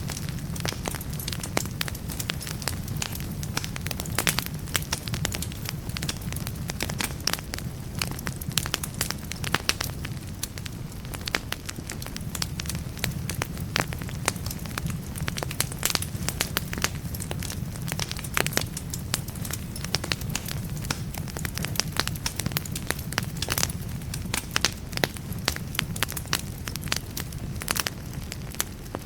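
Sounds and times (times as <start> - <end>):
low fire rumble: 0.0 - 29.0
wood fire crackling and popping: 0.0 - 29.0.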